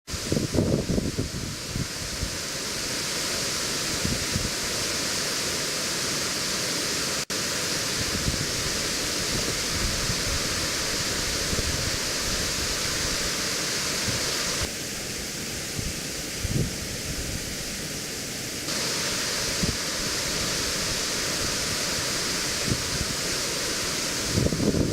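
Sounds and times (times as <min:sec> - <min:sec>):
waterfall roaring: 0:00.1 - 0:24.9.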